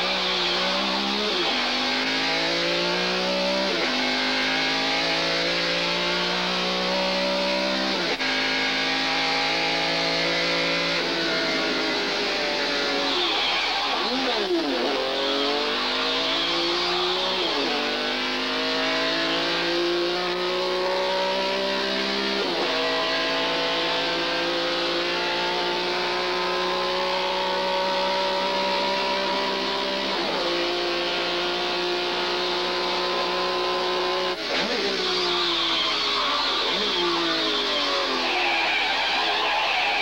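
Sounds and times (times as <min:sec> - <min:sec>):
vehicle engine accelerating through gears: 0:00.0 - 0:13.4, 0:14.0 - 0:38.4.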